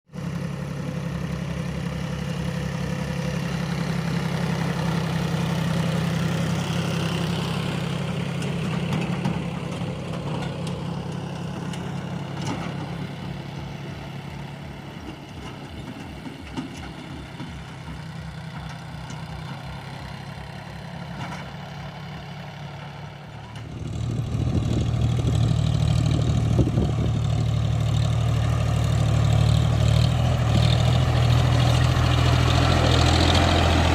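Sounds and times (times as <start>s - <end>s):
heavy diesel engine running: 0.1s - 33.9s.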